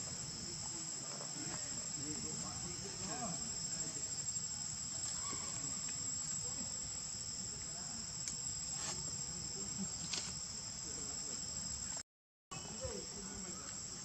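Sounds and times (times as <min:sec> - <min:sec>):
insect chorus droning: 0:00.0 - 0:14.0.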